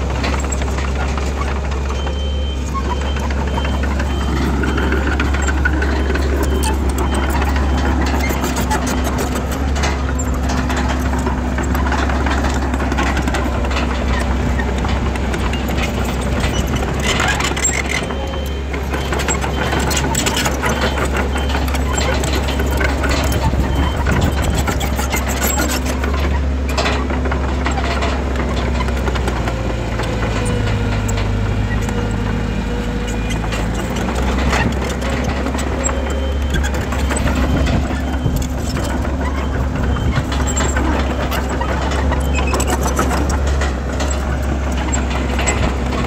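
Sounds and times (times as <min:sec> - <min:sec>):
bulldozer diesel engine rumbling: 0:00.0 - 0:46.0
short knocks and clanks: 0:00.0 - 0:46.0.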